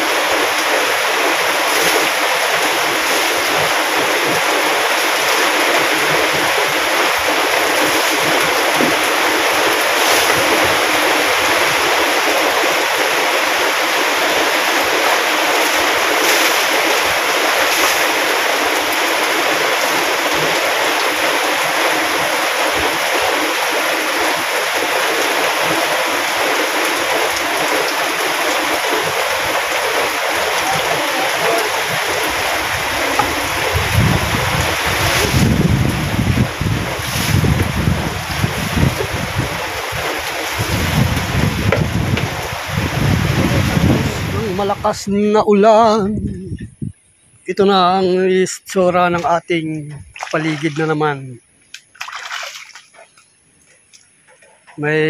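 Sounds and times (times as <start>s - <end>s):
heavy rain pouring: 0.0s - 46.6s, 47.6s - 53.1s.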